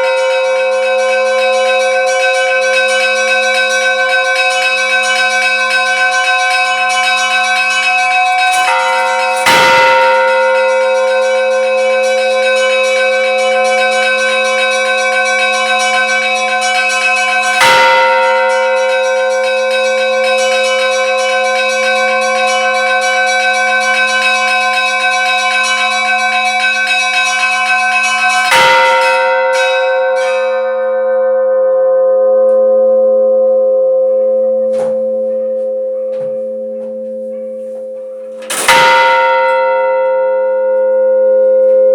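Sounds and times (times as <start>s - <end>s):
large bell ringing: 0.0s - 41.9s.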